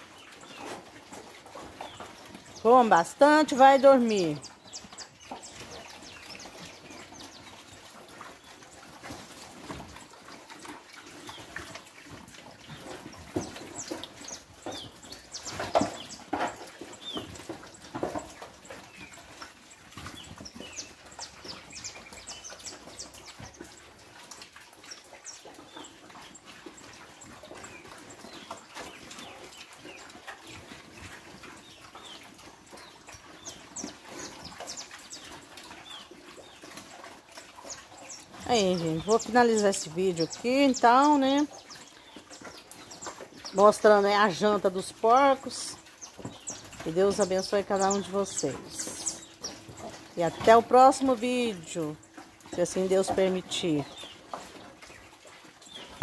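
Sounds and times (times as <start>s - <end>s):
pigs slurping and chomping: 0.0s - 56.0s.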